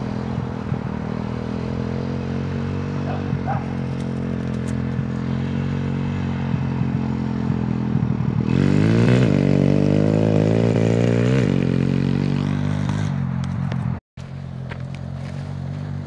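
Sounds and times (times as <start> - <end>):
motorbike engine revving: 0.0 - 14.0.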